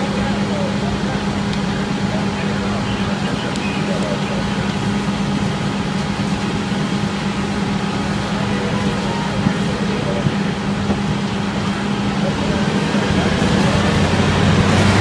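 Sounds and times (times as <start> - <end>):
large engine running: 0.0 - 15.0.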